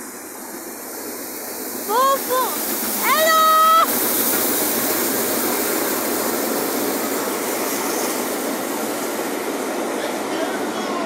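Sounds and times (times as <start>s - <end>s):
steam train passing at speed: 0.0s - 11.0s.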